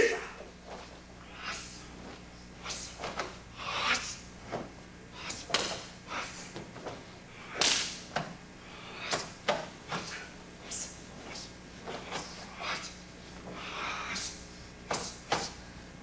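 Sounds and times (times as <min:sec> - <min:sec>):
uniform snapping and swishing: 0:00.6 - 0:08.4, 0:09.0 - 0:15.6.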